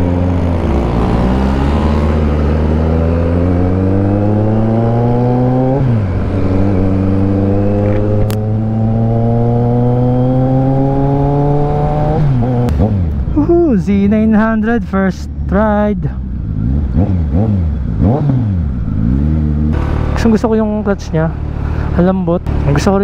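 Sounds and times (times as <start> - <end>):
motorcycle engine accelerating: 0.0 - 14.4, 15.2 - 23.0.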